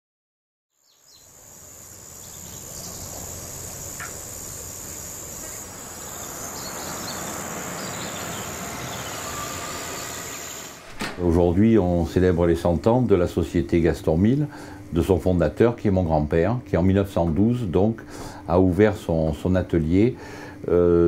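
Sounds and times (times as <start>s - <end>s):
cicadas buzzing: 0.7s - 21.0s
low outdoor ambience: 0.8s - 21.0s.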